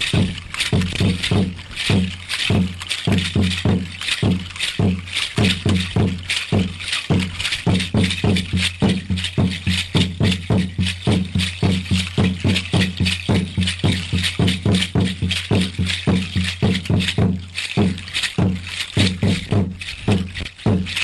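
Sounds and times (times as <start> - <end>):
drum beating steadily: 0.0 - 21.0
rattle shaking: 0.0 - 21.0.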